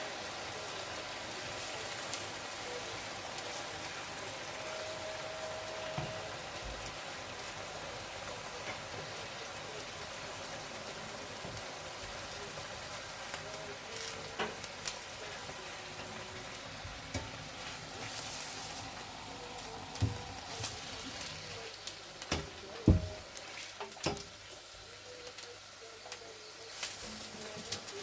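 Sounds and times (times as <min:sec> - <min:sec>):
chicken sizzling in frying pan: 0:00.0 - 0:28.0.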